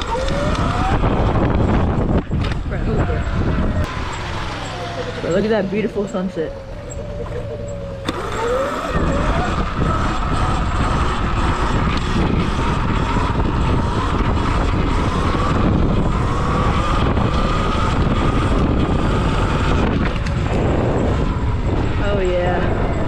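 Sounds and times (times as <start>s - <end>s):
electric motor whine: 0.0s - 23.0s
wind buffeting microphone: 0.0s - 23.0s.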